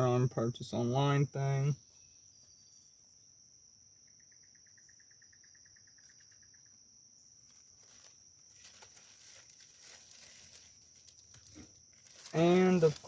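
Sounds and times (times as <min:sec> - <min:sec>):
high-pitched insect buzz: 0:01.2 - 0:13.0.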